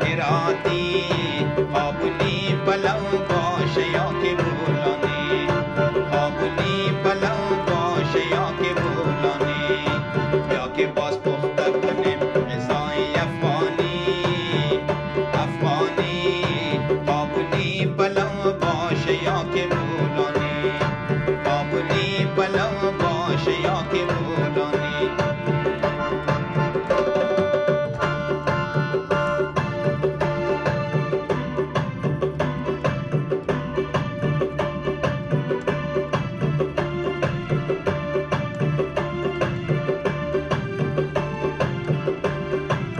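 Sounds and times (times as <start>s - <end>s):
song with steady drum rhythm: 0.0s - 42.9s.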